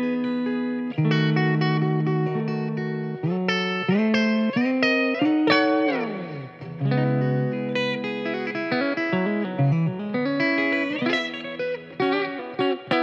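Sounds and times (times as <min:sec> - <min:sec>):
clean electric guitar notes: 0:00.0 - 0:13.0.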